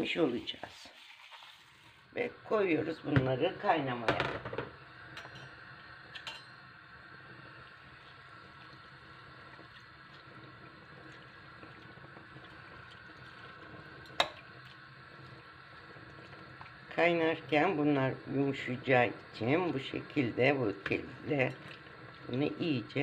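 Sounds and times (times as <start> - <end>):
pot boiling with faint bubbling: 0.0 - 23.0.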